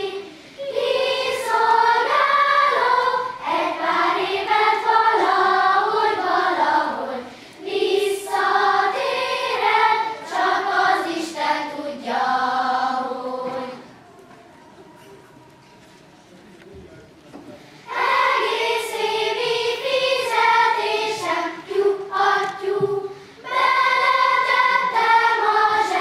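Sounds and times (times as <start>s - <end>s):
children's choir singing: 0.0s - 15.1s, 17.8s - 26.0s.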